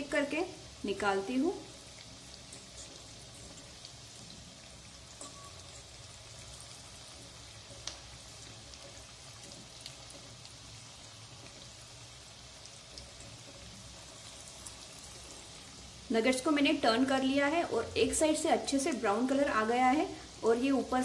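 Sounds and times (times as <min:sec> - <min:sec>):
food deep-frying in hot oil: 0:00.0 - 0:21.0.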